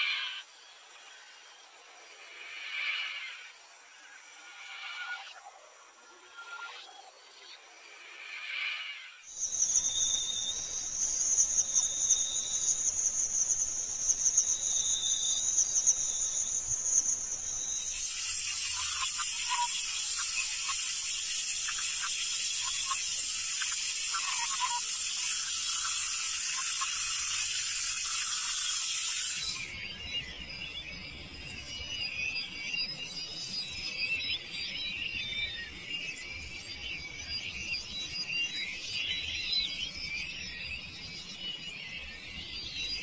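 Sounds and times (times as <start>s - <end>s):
faint chirps: 0.0s - 43.0s.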